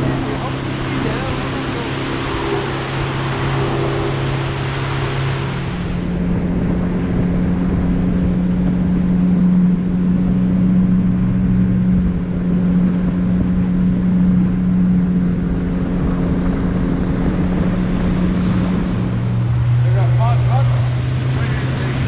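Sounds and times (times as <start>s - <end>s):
outboard motor humming: 0.0s - 22.0s.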